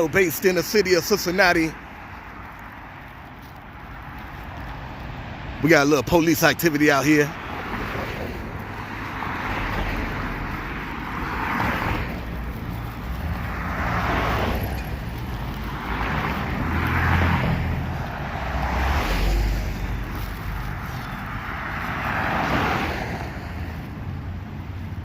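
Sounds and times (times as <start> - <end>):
cars passing: 0.0 - 25.0
low traffic rumble: 0.0 - 25.0.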